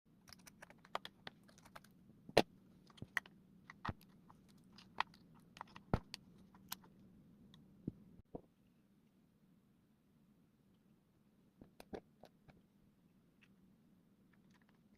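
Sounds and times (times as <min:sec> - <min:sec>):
faint low hum: 0:00.1 - 0:14.9.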